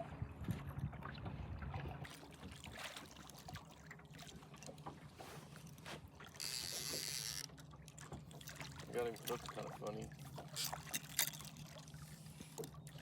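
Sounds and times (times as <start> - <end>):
knocks and clicks in a boat: 0.0 - 13.0.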